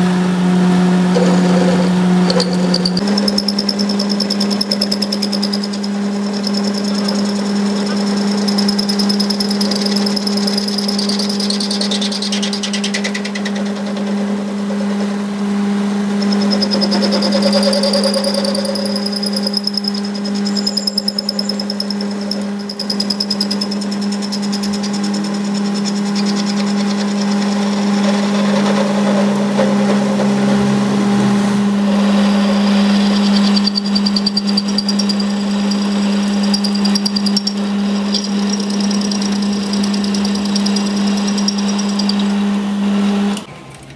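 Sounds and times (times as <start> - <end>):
machine low hum: 0.0 - 43.9.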